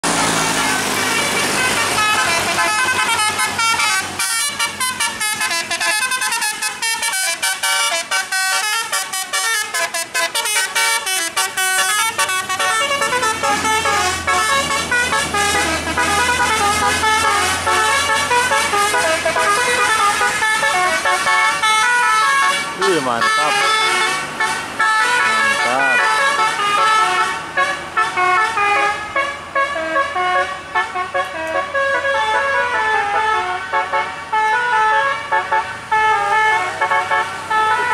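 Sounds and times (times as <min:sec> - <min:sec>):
musical air horn tune: 0:00.4 - 0:37.9.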